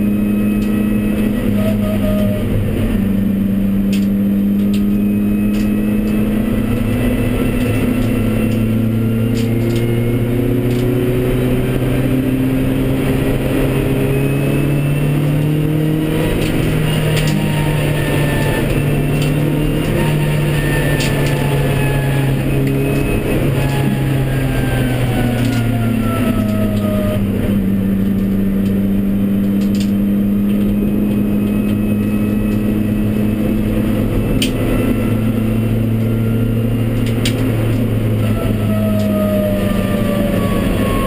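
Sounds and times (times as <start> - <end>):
car engine pulling hard: 0.0 - 41.0.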